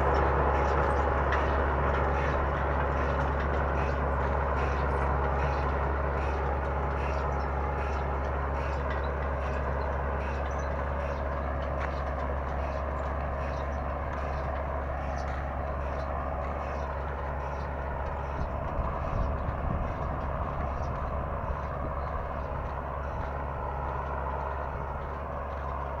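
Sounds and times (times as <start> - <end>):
tractor engine droning: 0.0 - 26.0.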